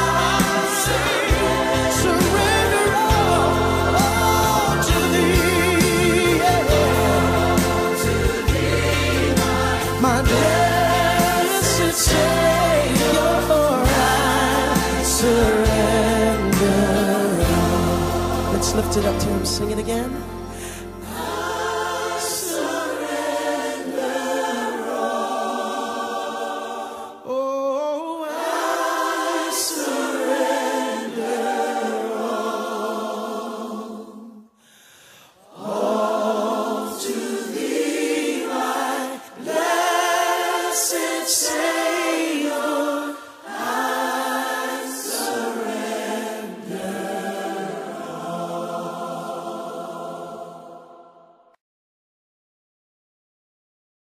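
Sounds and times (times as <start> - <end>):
choir singing: 0.0 - 34.6, 35.3 - 51.6.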